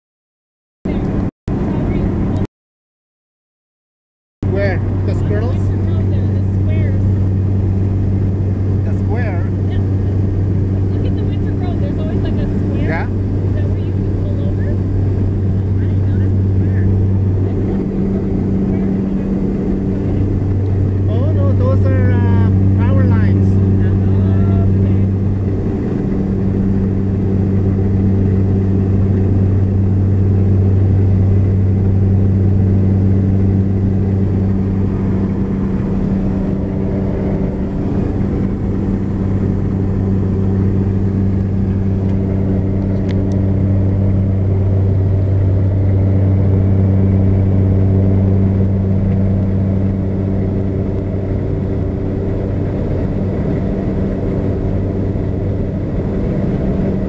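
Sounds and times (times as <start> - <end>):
propeller engine drone: 0.9 - 2.5, 4.4 - 57.0.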